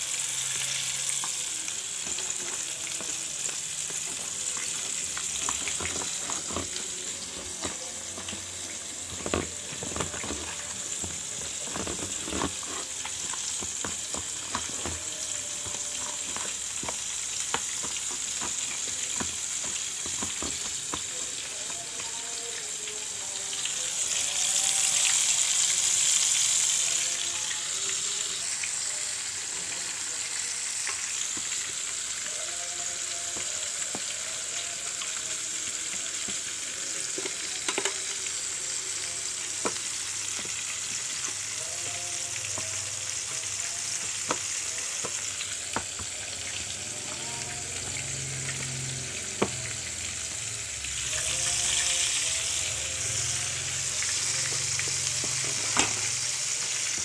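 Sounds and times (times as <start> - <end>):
chicken frying in hot oil: 0.0 - 57.0.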